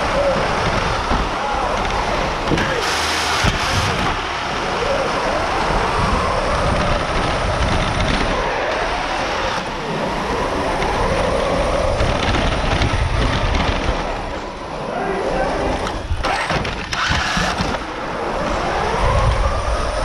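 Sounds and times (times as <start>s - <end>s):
drivetrain mechanical noise: 0.0s - 20.0s
electric motors whining: 0.0s - 20.0s.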